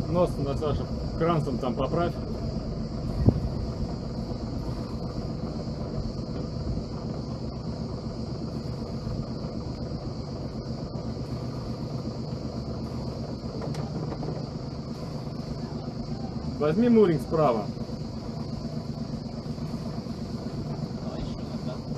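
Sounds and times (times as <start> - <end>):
diesel engine humming: 0.0 - 21.9.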